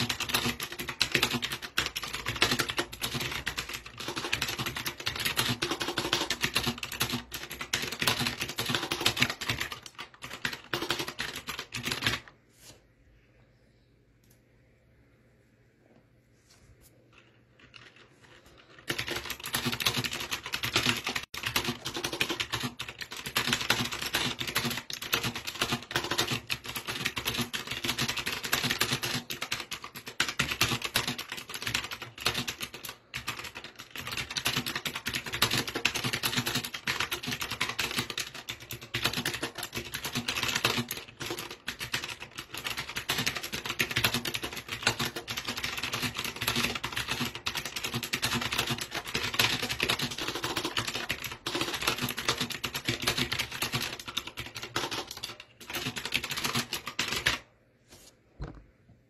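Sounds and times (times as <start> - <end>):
fast typing on mechanical keyboard: 0.0 - 12.4, 17.2 - 57.5.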